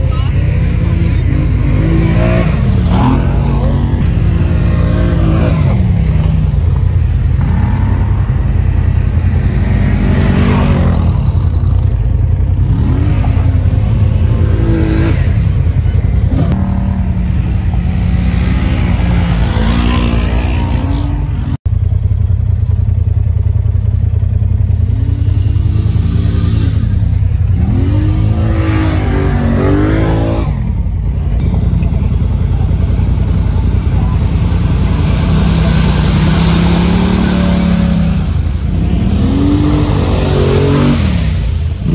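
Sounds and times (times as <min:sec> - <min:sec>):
off-road vehicle engines revving: 0:00.0 - 0:41.9.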